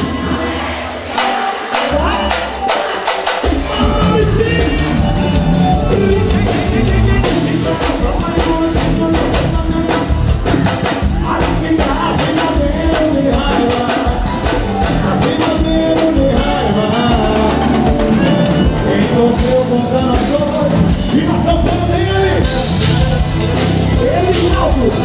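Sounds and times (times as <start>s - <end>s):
live band music: 0.0s - 25.0s
person singing: 0.0s - 25.0s
drum beat: 1.1s - 25.0s.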